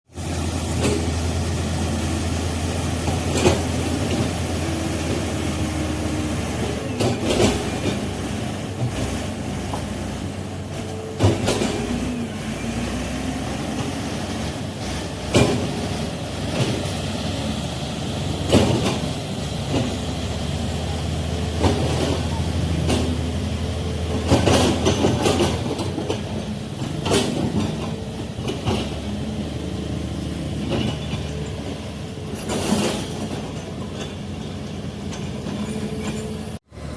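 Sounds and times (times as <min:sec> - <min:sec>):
bulldozer diesel engine running: 0:00.1 - 0:36.9
tracks clanking: 0:00.2 - 0:36.9.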